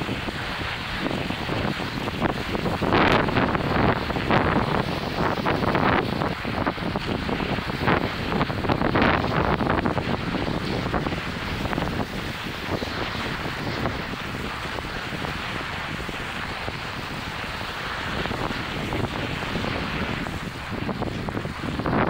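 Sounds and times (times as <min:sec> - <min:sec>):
snow hissing and scraping: 0:00.0 - 0:22.0
wind buffeting microphone: 0:00.0 - 0:22.0.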